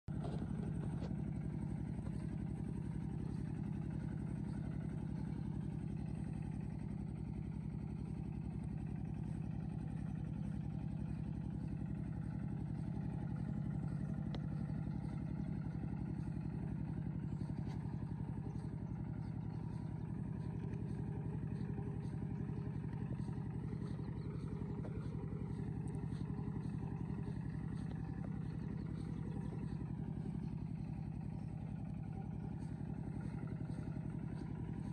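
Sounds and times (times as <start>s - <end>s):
vehicle engine running steadily: 0.0s - 34.9s.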